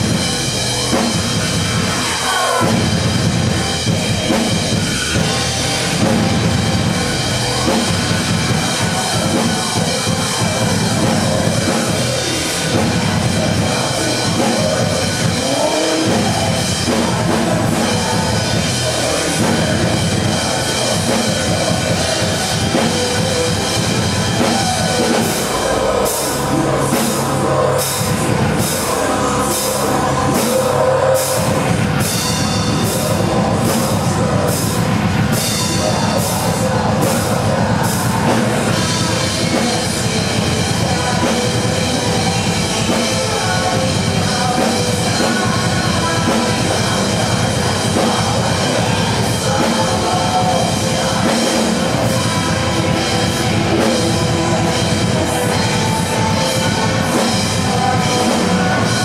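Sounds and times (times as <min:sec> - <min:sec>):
drum kit playing: 0:00.0 - 0:59.0
recorded metal song: 0:00.0 - 0:59.0.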